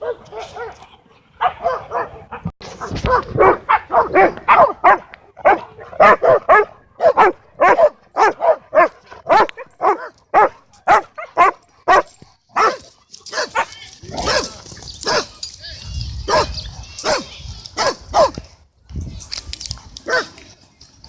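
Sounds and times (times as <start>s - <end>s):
dog barking: 0.0s - 0.8s, 1.4s - 15.3s, 16.3s - 18.4s, 20.0s - 20.4s.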